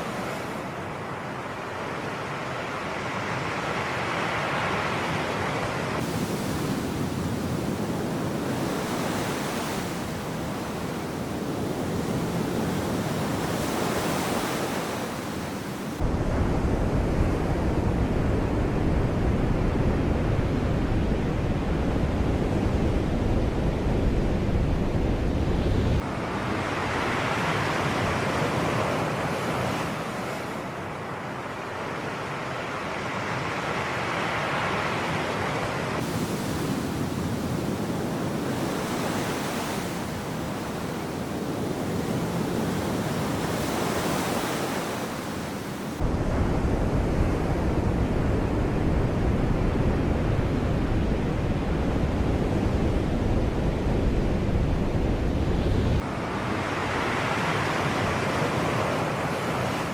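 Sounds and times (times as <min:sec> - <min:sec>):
sea waves surging: 0:00.0 - 0:18.3, 0:23.5 - 0:59.9
wind rumble on microphone: 0:04.6 - 0:30.7, 0:34.6 - 0:59.9.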